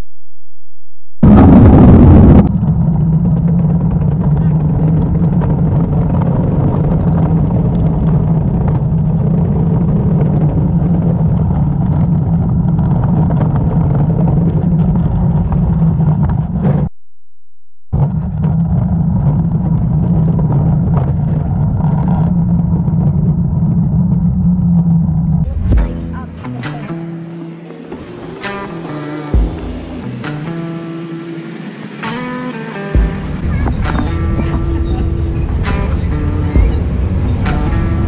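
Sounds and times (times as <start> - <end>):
cart wheels rolling on concrete: 2.5 - 16.8, 18.0 - 38.0.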